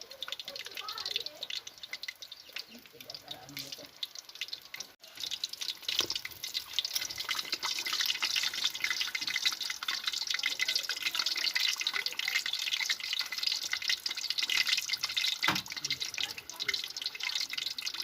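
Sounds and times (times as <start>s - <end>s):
meat deep-frying in hot oil: 0.0s - 18.0s.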